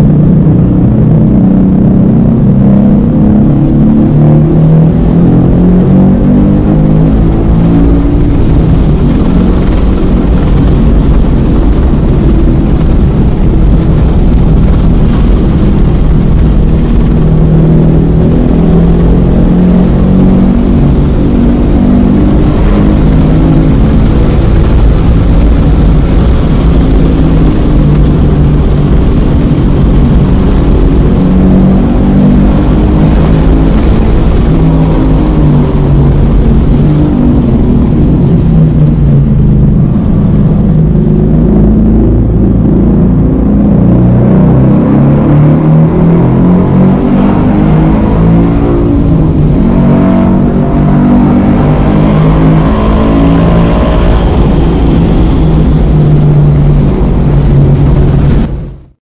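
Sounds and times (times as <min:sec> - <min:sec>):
road and wind noise: 0:00.0 - 0:59.0
sports car engine at full throttle: 0:00.0 - 0:59.0.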